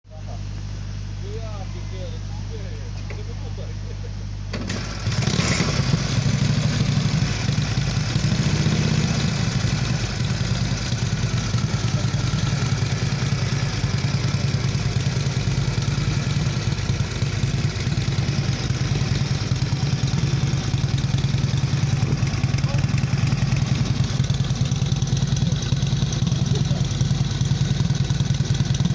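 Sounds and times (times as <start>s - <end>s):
motorcycle engine starting and idling: 4.5s - 28.9s.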